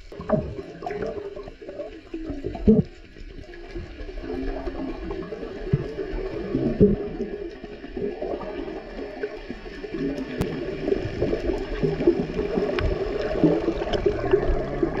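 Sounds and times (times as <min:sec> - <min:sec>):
underwater bubbling: 0:00.0 - 0:15.0.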